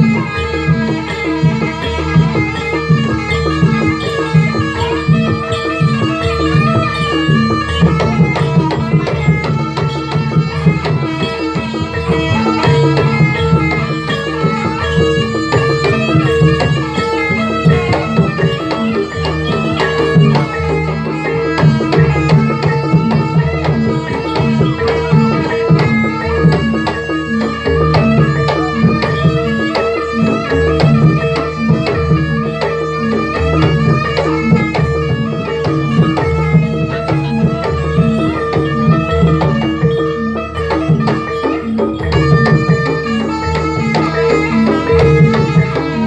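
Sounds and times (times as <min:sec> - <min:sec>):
hand drums beating: 0:00.0 - 0:46.0
ringing pitched percussion: 0:00.0 - 0:46.0.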